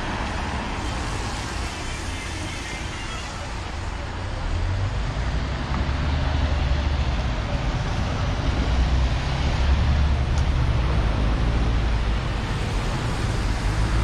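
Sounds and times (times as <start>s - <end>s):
passing cars rumble and hiss: 0.0s - 14.0s.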